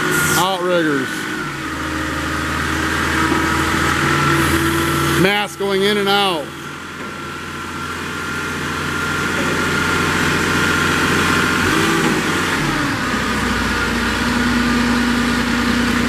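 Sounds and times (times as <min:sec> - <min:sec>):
diesel engine running: 0:00.0 - 0:16.0
hydraulic mast whine: 0:00.0 - 0:16.0.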